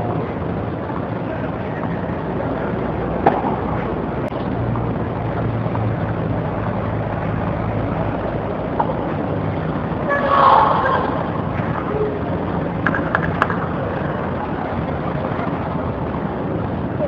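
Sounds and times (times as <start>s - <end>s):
steady rumbling background noise: 0.0s - 17.0s.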